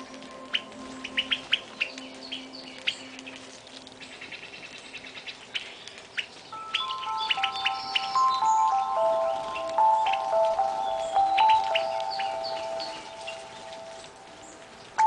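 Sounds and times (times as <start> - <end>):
held musical bird notes: 0.0 - 15.0
small songbirds chirping: 0.0 - 15.0.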